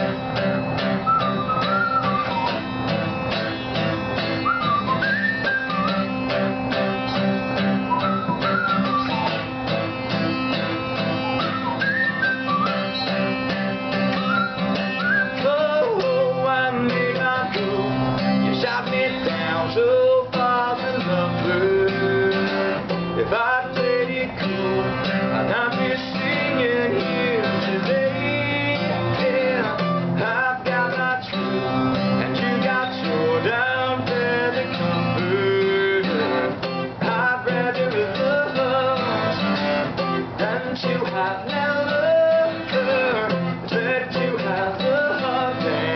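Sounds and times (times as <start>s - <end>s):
acoustic guitar strummed and picked: 0.0s - 45.9s.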